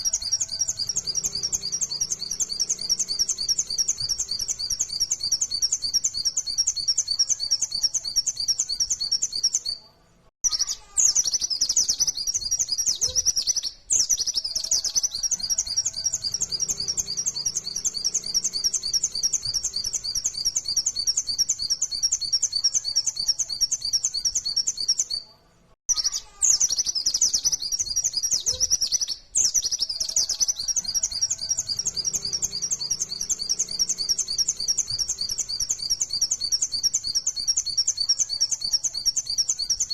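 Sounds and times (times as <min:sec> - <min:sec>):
bird chirping rapidly: 0:00.0 - 0:09.8, 0:10.4 - 0:25.2, 0:25.9 - 0:39.9.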